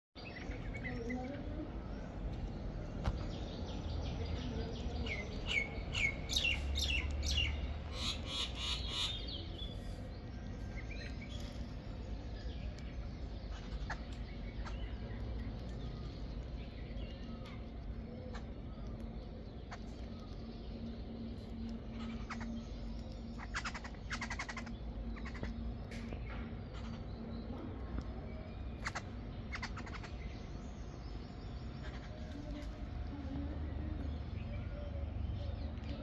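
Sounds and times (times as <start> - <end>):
low steady background rumble: 0.2 - 36.0
small birds chirping: 0.2 - 36.0.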